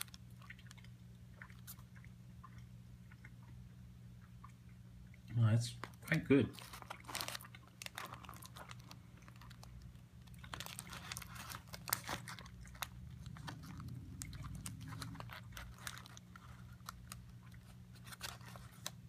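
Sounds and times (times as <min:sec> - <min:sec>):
chewing crispy food: 0:00.0 - 0:19.0.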